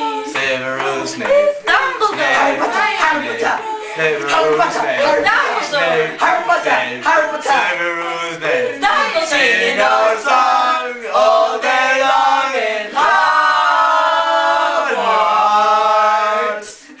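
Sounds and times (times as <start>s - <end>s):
group singing a cappella: 0.0s - 17.0s.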